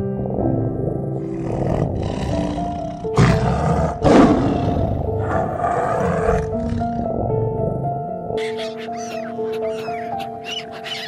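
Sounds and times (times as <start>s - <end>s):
tiger roaring: 0.0s - 9.0s
background music with held notes: 0.0s - 11.0s.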